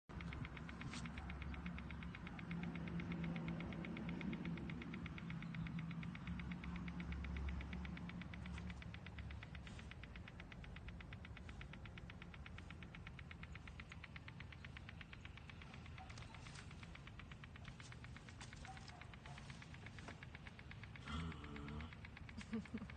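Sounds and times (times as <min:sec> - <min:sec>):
rapid ticking pulse: 0:00.0 - 0:22.9
low hum: 0:00.1 - 0:22.9.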